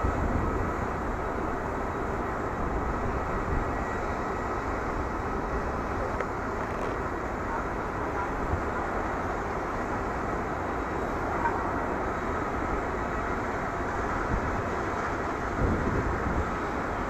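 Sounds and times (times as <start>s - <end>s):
distant jet engines rushing: 0.0s - 17.0s.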